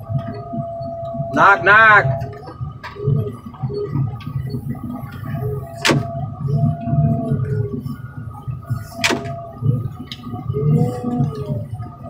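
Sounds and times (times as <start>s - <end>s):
heavy machinery engine rumble: 0.0s - 12.0s.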